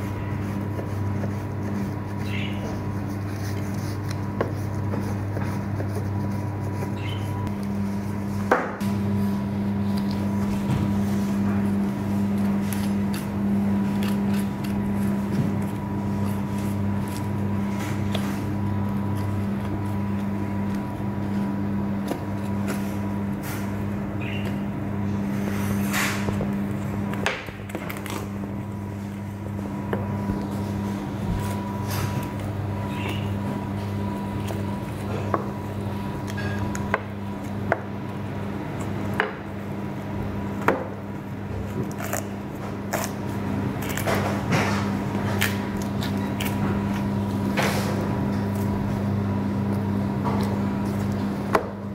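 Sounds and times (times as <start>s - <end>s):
low electric machine hum: 0.0s - 51.9s.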